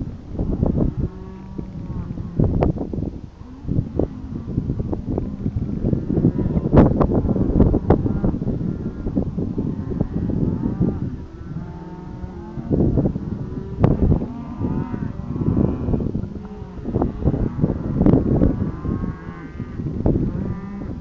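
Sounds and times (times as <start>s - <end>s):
wind on microphone: 0.0s - 21.0s
cattle mooing: 0.4s - 2.6s, 3.4s - 21.0s.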